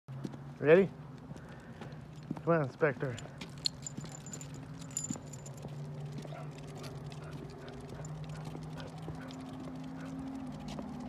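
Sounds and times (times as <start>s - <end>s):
dog claws clicking on pavement: 1.1s - 11.0s.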